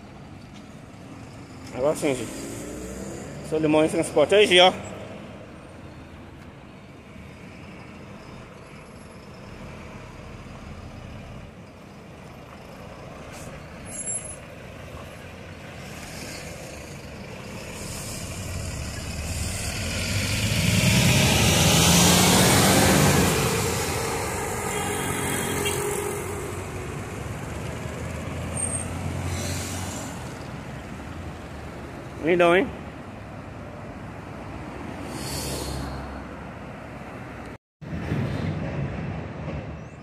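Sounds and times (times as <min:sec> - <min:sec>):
diesel bus engine passing: 0:00.0 - 0:40.0.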